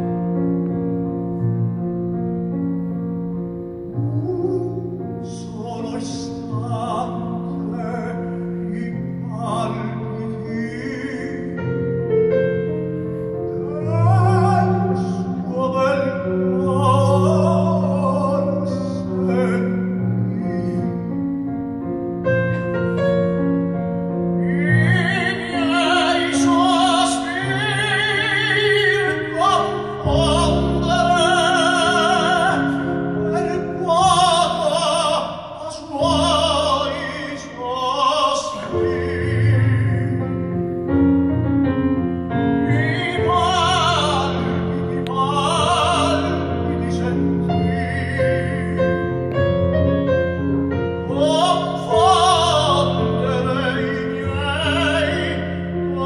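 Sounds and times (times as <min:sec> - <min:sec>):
digital piano: 0:00.0 - 0:56.0
operatic tenor singing: 0:03.9 - 0:21.3, 0:24.2 - 0:41.0, 0:42.2 - 0:56.0.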